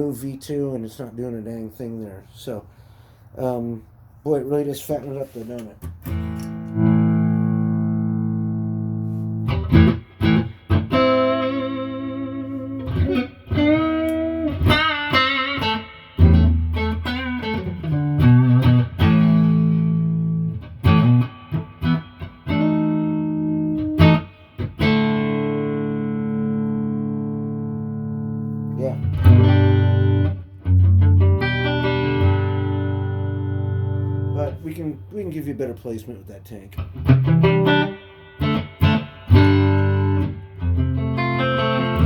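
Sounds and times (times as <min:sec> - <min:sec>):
electric guitar with reverb: 0:05.8 - 0:35.8, 0:36.7 - 0:42.0.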